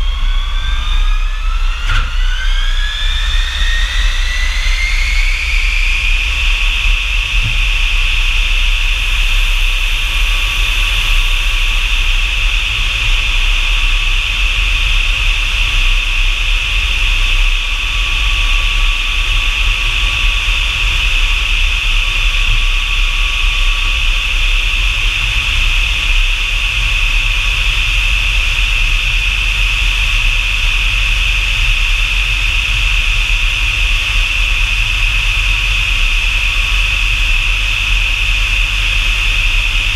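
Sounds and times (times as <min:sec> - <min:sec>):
jet engine whine and rumble: 0:00.0 - 0:39.9.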